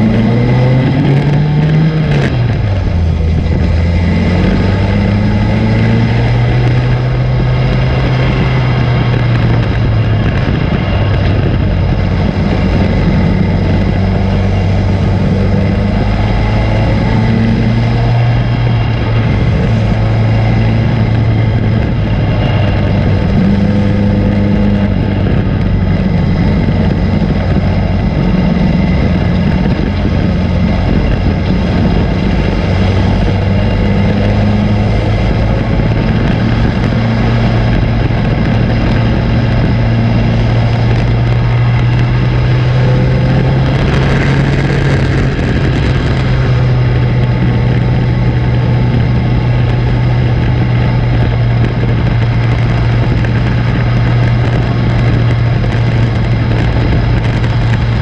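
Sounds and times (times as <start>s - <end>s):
race car engine running hard: 0.0s - 58.0s
rush of wind and track noise: 0.0s - 58.0s.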